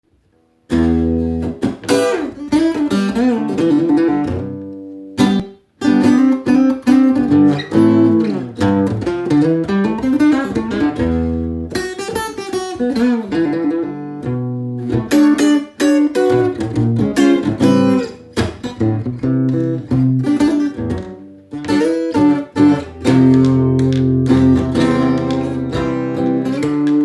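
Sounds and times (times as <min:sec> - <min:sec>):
acoustic guitar blues: 0:00.7 - 0:27.0.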